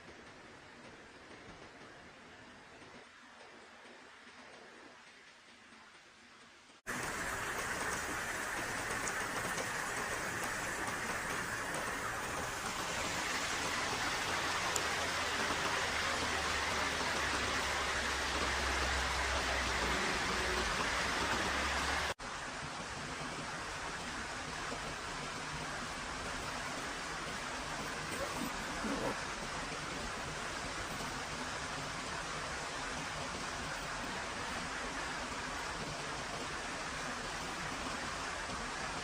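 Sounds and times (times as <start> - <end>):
rushing water: 4.7 - 39.0.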